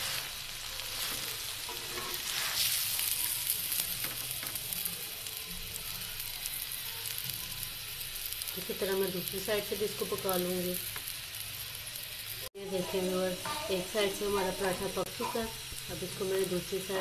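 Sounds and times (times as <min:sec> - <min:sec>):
flatbread sizzling in oil: 0:00.0 - 0:17.0.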